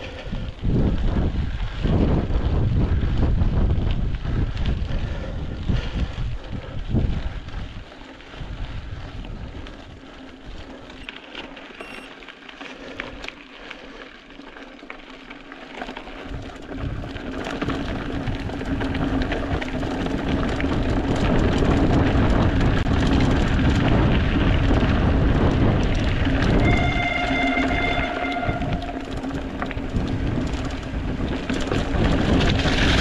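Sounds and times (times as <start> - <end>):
bike rattling: 0.0 - 33.0
bike tyres crunching on gravel: 0.0 - 33.0.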